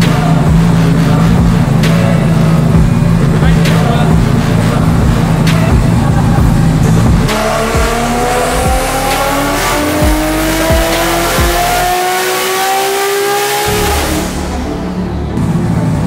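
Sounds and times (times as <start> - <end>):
car engine revving on dyno: 0.0 - 16.0
music with low beat: 0.0 - 16.0.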